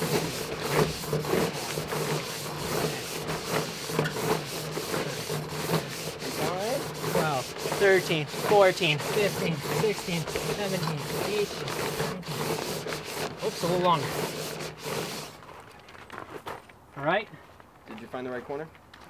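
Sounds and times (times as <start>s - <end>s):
plastic pouch scraping on siding: 0.0s - 15.6s.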